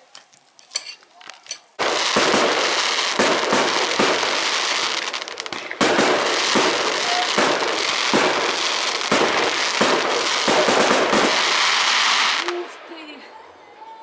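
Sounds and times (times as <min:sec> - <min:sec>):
fireworks crackle: 0:00.0 - 0:14.0
fireworks bangs: 0:01.8 - 0:13.7.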